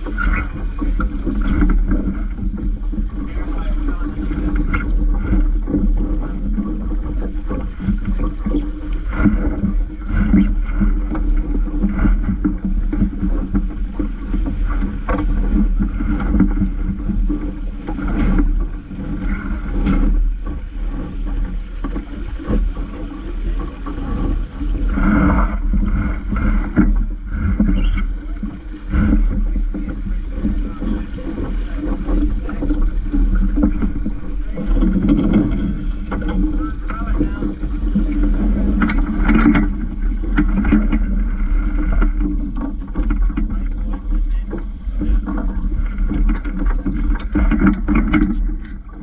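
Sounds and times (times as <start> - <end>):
water washing against hull: 0.0 - 49.0
wind rumble on microphone: 0.0 - 49.0.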